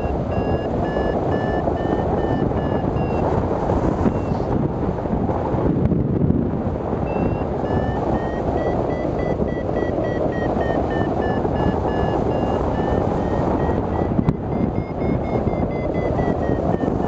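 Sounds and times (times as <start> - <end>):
electronic variometer beeps: 0.0 - 3.4, 4.0 - 4.5, 7.0 - 17.0
wind rushing over microphone: 0.0 - 17.0.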